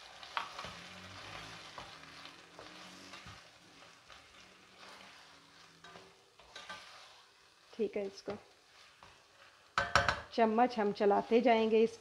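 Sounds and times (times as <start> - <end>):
spatula scraping a pan: 0.0 - 11.9
food sizzling in a frying pan: 0.0 - 12.0.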